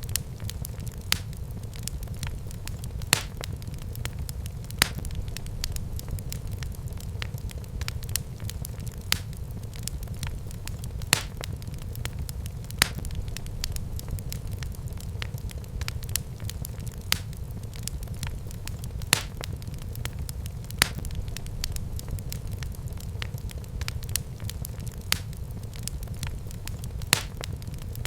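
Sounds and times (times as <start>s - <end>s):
fire crackling: 0.0s - 28.0s
low rumble of flames: 0.0s - 28.0s
sharp fire pops: 0.0s - 28.0s.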